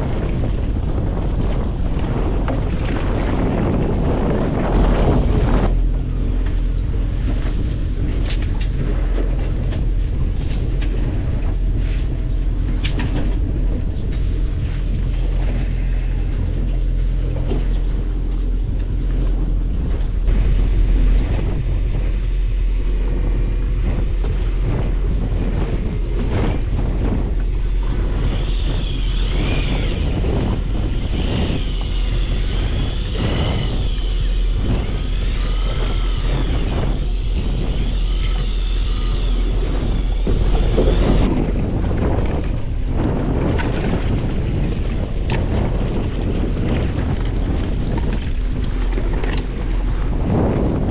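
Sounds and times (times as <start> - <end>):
boat engine running: 0.0 - 50.9
wind on microphone: 0.0 - 50.9.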